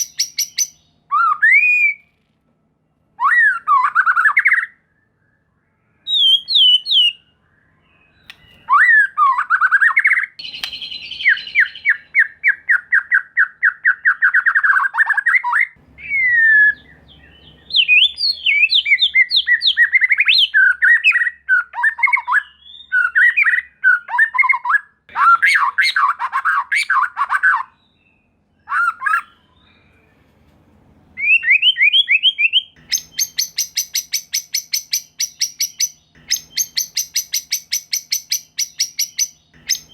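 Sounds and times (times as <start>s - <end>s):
bird singing whistled phrases: 0.0s - 2.1s, 3.2s - 30.0s, 31.2s - 39.9s.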